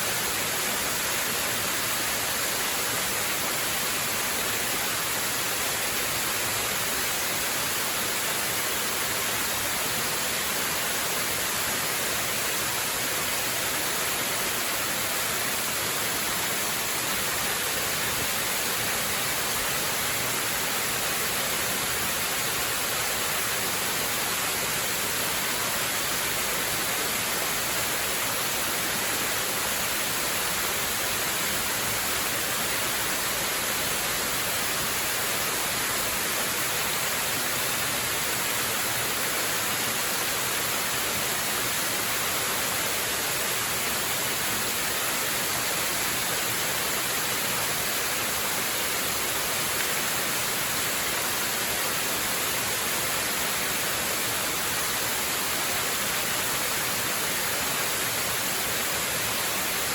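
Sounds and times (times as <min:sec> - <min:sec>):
waterfall hiss: 0:00.0 - 0:59.9.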